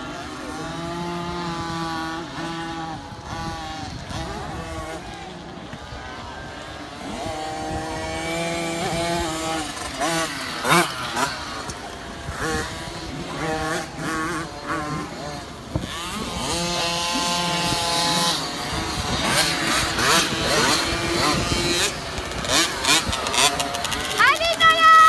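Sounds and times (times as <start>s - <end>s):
dirt bikes revving: 0.0s - 25.0s.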